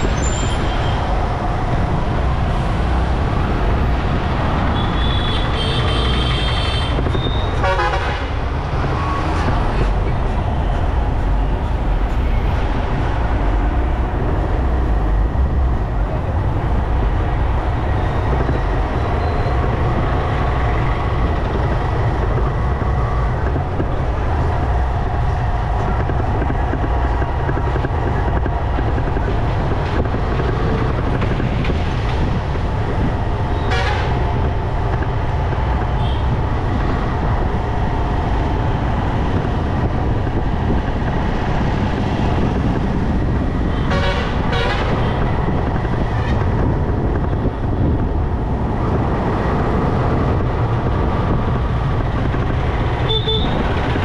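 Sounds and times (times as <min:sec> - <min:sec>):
road noise: 0:00.0 - 0:54.0
motorcycle engine and wind rumble: 0:08.3 - 0:54.0.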